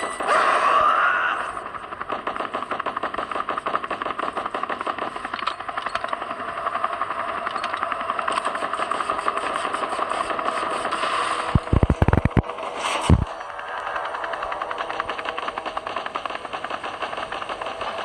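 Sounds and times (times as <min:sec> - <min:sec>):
helicopter rotor chopping: 0:00.0 - 0:18.0.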